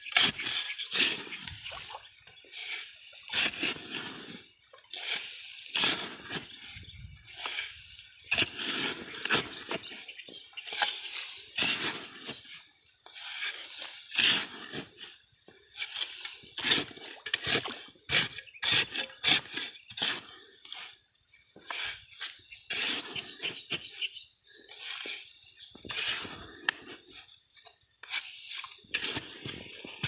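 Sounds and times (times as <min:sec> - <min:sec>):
hands scraping in mud: 0:00.0 - 0:21.0, 0:21.6 - 0:30.0.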